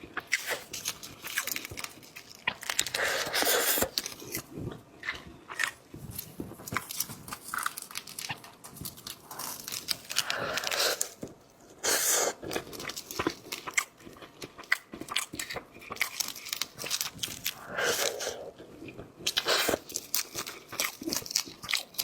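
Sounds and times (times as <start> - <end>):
seafood being crunched and chewed: 0.0 - 22.0.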